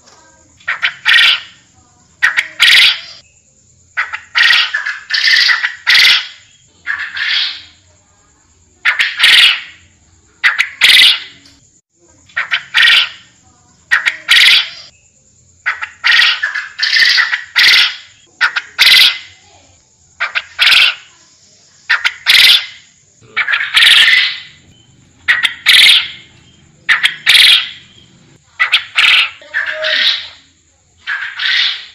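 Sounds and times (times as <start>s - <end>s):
quail calling: 0.6s - 3.2s, 4.0s - 7.8s, 8.8s - 11.6s, 12.3s - 13.3s, 13.9s - 14.9s, 15.6s - 19.4s, 20.2s - 21.1s, 21.9s - 31.9s.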